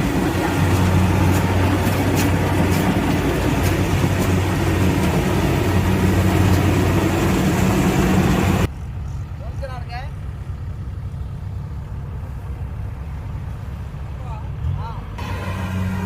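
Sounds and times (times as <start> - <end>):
combine harvester engine hum: 0.0 - 16.0.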